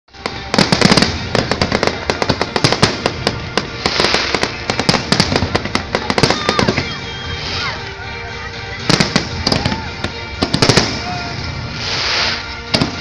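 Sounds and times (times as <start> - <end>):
fireworks bangs and crackles: 0.1 - 8.0, 8.7 - 13.0.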